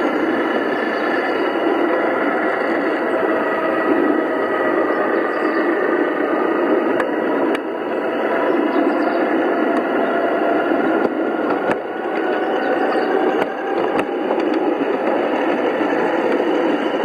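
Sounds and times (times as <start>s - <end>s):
miniature train running on track: 0.0s - 17.0s.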